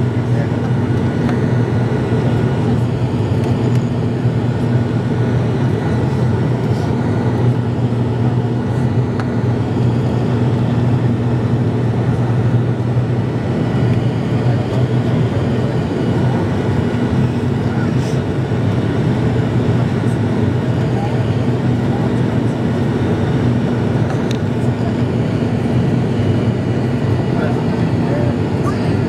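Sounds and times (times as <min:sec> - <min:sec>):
propeller engines droning: 0:00.0 - 0:29.0.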